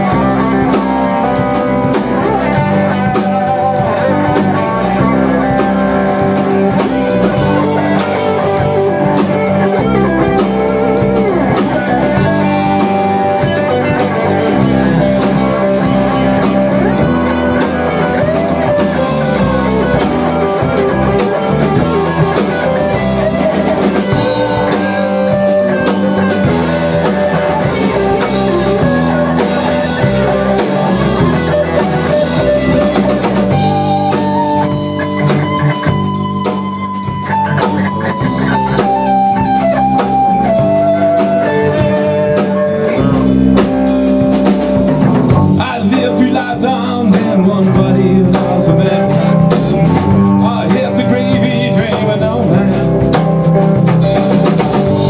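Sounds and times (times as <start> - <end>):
lead guitar sliding notes: 0.0 - 55.0
rock band playing live: 0.0 - 55.0.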